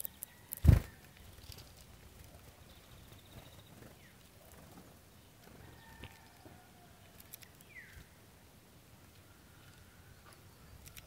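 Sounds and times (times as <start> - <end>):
quiet outdoor hiss: 0.0 - 11.0
small birds chirping: 0.0 - 11.0.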